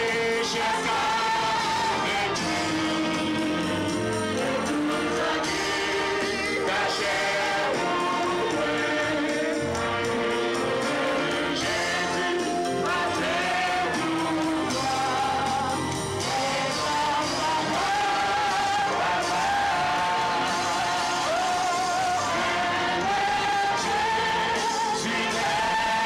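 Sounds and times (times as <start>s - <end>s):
band accompaniment: 0.0s - 26.0s
congregation singing: 0.0s - 26.0s.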